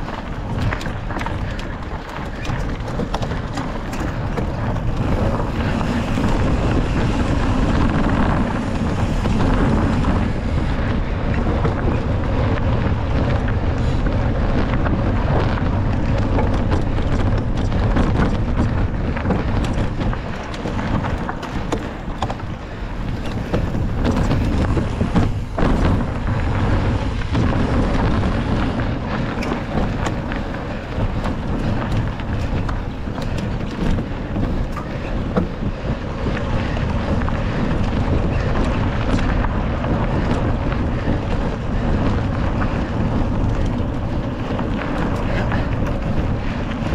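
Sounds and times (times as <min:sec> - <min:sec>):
bike knocks and rattles: 0:00.0 - 0:46.9
wind buffeting microphone: 0:00.0 - 0:46.9.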